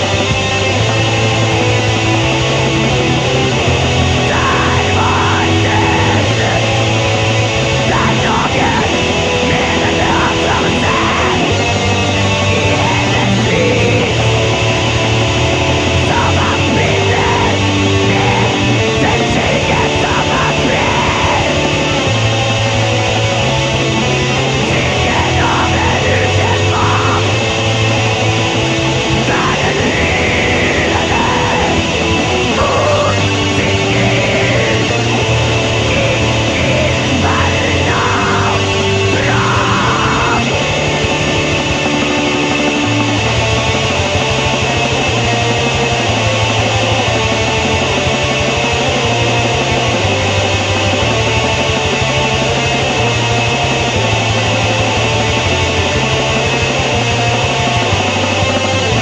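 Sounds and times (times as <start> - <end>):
distorted electric guitars: 0.0 - 59.0
drums: 0.0 - 59.0.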